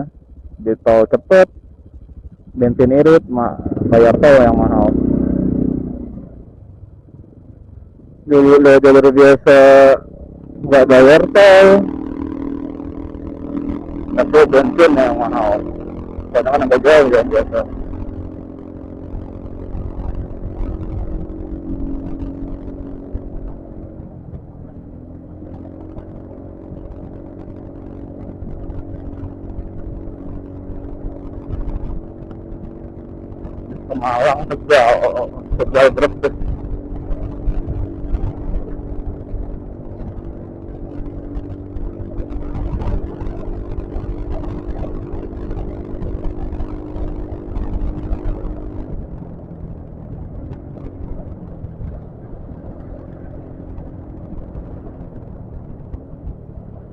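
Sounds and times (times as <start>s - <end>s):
scooter engine running: 0.0s - 8.2s, 9.4s - 56.9s
wind rumble on microphone: 0.0s - 56.9s.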